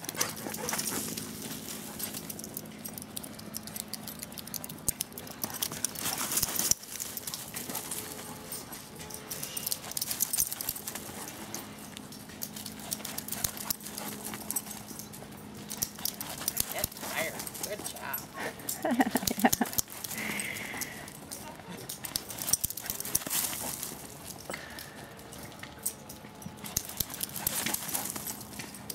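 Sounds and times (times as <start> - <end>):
dog paws pattering on dirt: 0.0 - 28.9.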